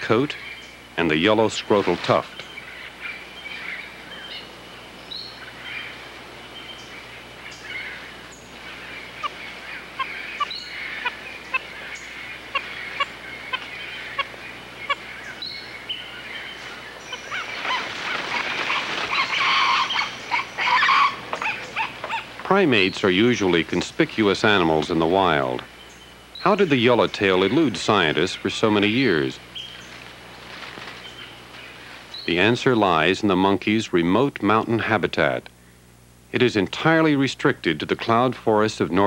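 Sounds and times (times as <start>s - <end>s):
animals chirping: 0.0s - 33.1s.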